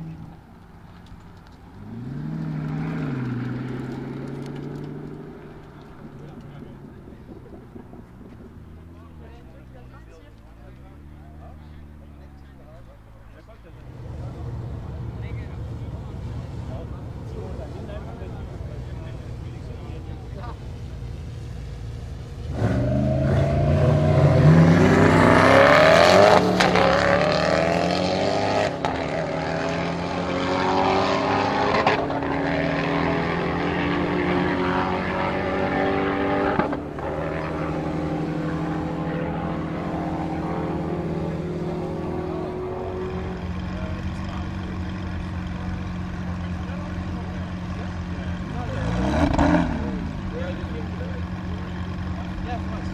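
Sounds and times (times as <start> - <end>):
car engines revving hard: 0.0 - 52.9
engine running steadily: 3.0 - 27.3, 30.8 - 52.9.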